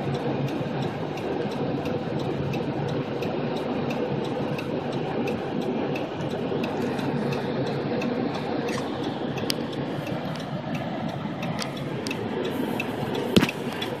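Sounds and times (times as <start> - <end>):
car road and engine noise: 0.0 - 14.0
faint regular ticking: 0.0 - 14.0.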